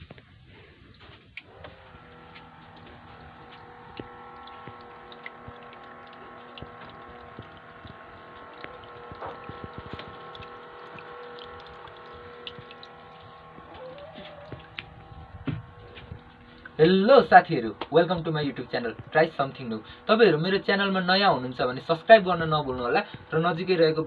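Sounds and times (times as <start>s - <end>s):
water pump humming: 0.0s - 24.0s
water dripping and splashing: 0.9s - 20.2s.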